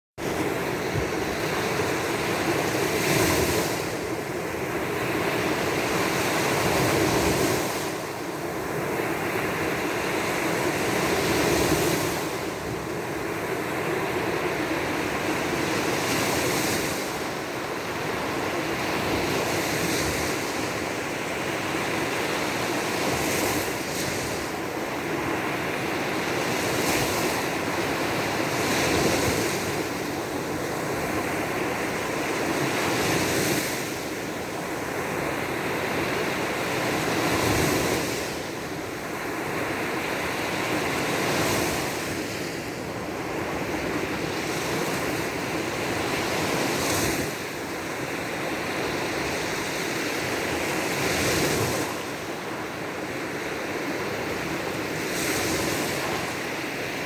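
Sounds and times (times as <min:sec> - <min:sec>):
surf washing onto shore: 0:00.2 - 0:57.0.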